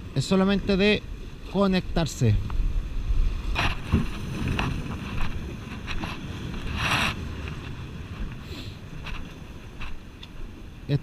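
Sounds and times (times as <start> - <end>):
surf washing against rocks: 0.0 - 11.0
wind rumbling on microphone: 0.0 - 11.0.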